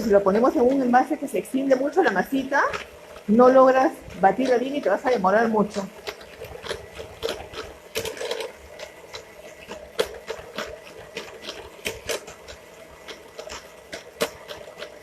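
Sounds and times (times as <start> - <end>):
electric hand mixer humming: 0.0 - 15.0.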